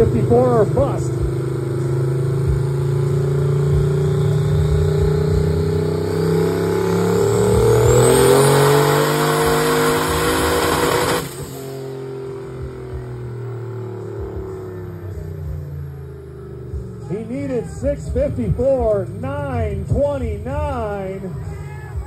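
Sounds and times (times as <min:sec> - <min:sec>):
high whine: 0:00.0 - 0:22.0
truck engine revving: 0:00.0 - 0:22.0.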